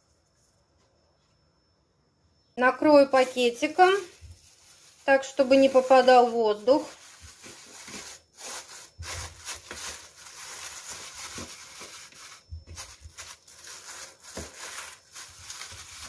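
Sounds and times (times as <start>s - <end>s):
plastic bag crinkling: 2.9s - 16.0s.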